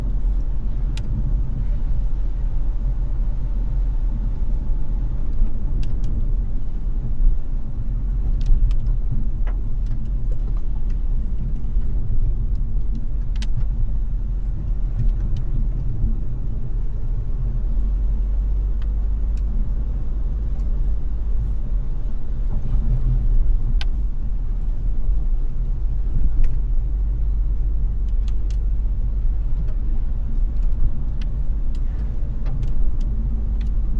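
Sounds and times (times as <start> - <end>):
road and engine rumble: 0.0 - 33.9.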